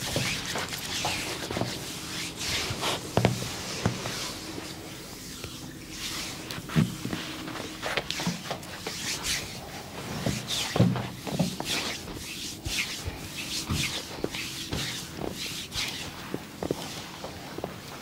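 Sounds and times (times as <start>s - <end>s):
hands rubbing and scratching clothing: 0.0s - 18.0s.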